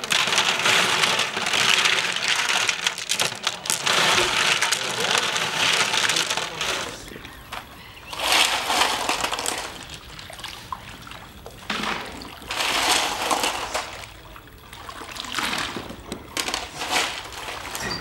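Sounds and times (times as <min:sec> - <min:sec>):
liquid sloshing and splashing: 0:00.0 - 0:18.0.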